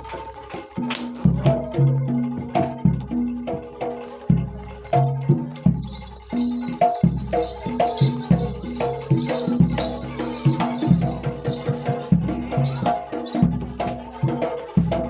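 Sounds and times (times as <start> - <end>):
metal percussion melody: 0.0 - 15.0
deep bass drum beats: 1.2 - 15.0.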